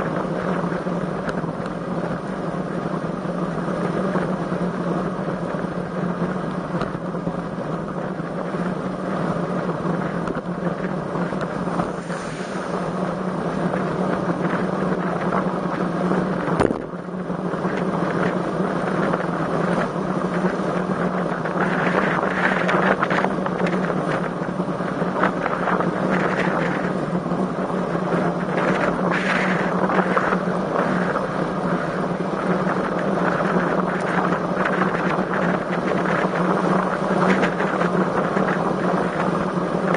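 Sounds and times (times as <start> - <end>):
steady low hum: 0.0 - 39.9
wind rushing over microphone: 0.0 - 39.9.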